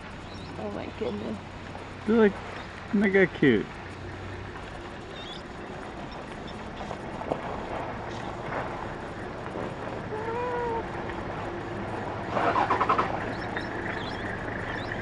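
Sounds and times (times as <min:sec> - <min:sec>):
open-air noise: 0:00.0 - 0:15.0
vehicle engine idling: 0:00.0 - 0:15.0.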